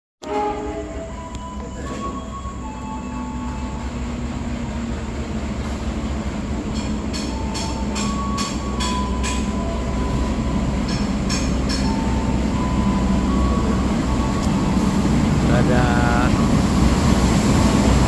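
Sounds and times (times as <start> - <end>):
locomotive engine rumble: 0.8 - 18.0.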